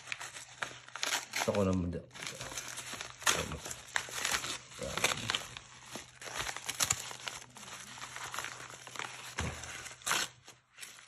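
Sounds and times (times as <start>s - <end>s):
envelope tearing and crinkling: 0.0s - 11.0s.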